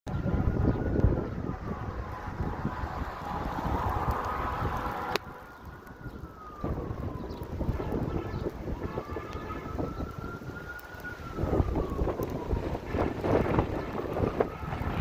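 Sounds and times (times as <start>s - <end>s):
warning siren wailing: 0.1s - 15.0s
wind buffeting microphone: 0.1s - 15.0s.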